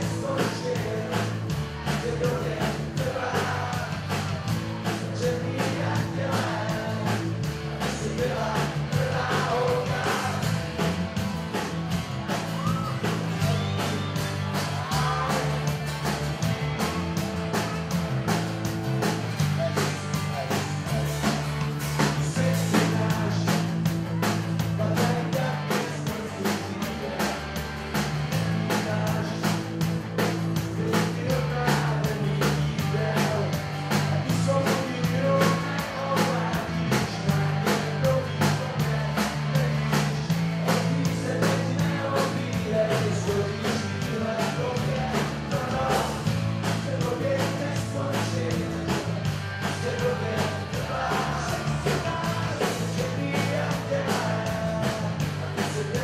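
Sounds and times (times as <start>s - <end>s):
acoustic and electric guitars: 0.0s - 56.0s
drum beat: 0.0s - 56.0s.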